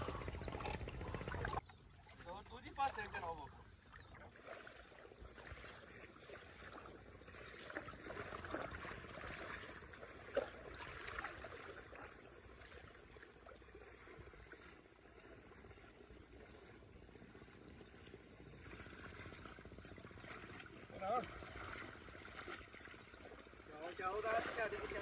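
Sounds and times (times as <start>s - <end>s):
water trickling and splashing: 0.0s - 25.0s.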